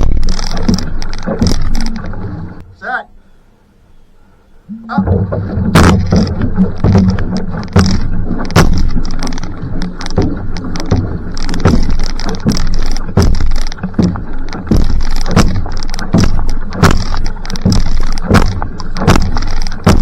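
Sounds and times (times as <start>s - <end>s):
paddle splashing in water: 0.0s - 2.6s, 4.7s - 20.0s
steady rushing noise: 0.0s - 20.0s.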